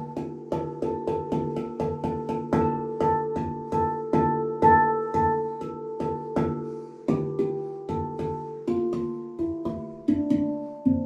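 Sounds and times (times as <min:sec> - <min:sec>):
handpan notes ringing: 0:00.0 - 0:11.0.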